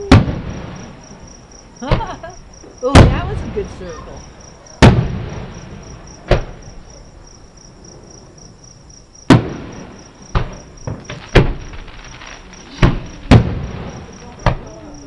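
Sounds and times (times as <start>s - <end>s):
crickets chirping: 0.0s - 15.0s
distant firework booms: 0.0s - 15.0s.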